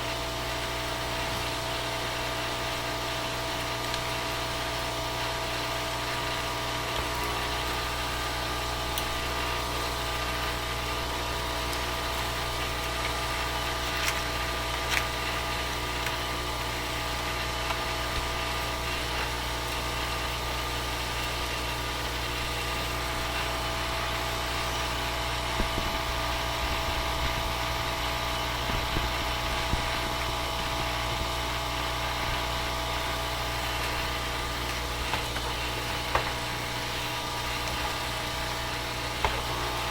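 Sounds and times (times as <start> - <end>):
steady tonal hum: 0.0 - 39.9.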